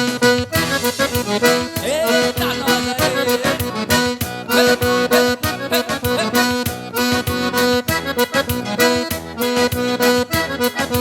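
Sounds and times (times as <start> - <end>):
accordion playing: 0.0 - 11.0
steady beat: 0.0 - 11.0.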